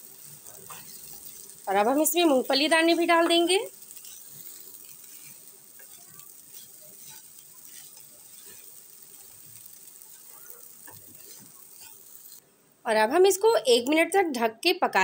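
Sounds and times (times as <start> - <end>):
spatula scraping a pan: 0.0 - 12.4
faint sizzle: 0.0 - 15.0.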